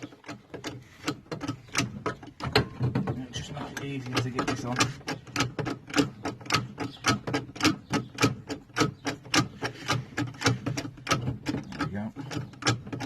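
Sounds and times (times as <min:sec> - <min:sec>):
bottle jack pump clicking: 0:00.0 - 0:13.0.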